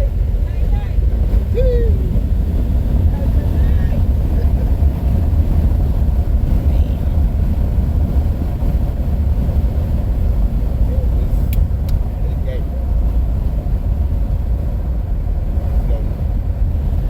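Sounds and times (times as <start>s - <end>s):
car road rumble: 0.0s - 17.0s
wind buffeting: 0.0s - 17.0s.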